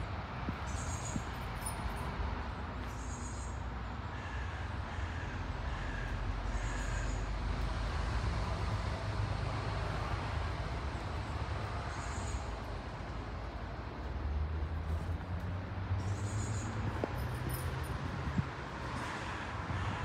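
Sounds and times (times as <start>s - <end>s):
distant traffic rumble: 0.0s - 20.0s.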